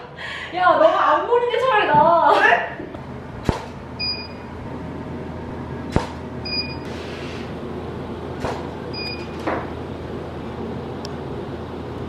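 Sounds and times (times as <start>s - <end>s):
steady room hum: 0.0s - 12.0s.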